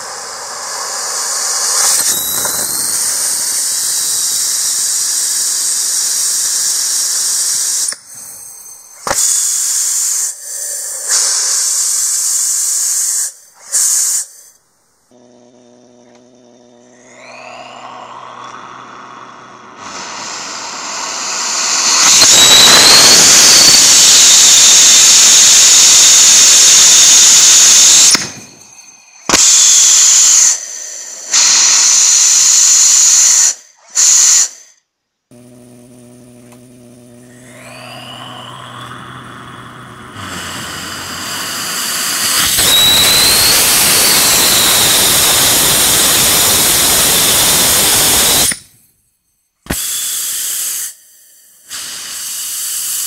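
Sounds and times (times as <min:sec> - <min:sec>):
rocket engine hissing jet: 0:00.0 - 0:14.6, 0:17.0 - 0:34.8, 0:37.2 - 0:48.8, 0:49.7 - 0:53.0.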